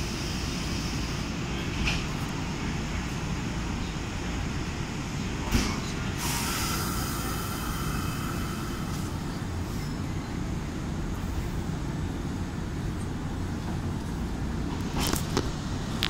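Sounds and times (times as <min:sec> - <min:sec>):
electric train low rumble: 0:00.0 - 0:16.0.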